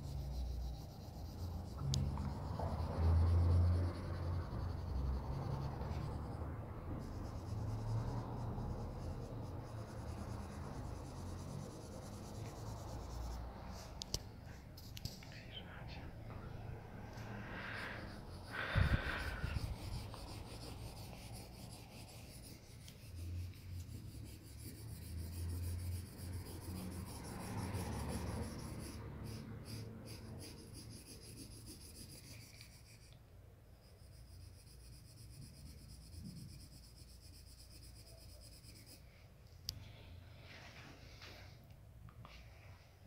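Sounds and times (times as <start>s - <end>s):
marker scribbling on paper: 0.0s - 14.2s, 17.5s - 33.2s, 33.8s - 39.0s.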